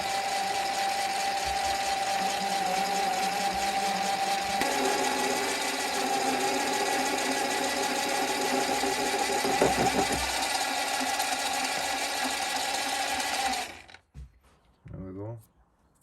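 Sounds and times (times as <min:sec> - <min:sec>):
lathe whining: 0:00.0 - 0:14.0.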